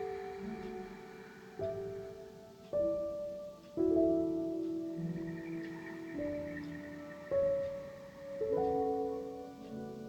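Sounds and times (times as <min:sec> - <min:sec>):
soft relaxation keyboard music: 0:00.0 - 0:10.0.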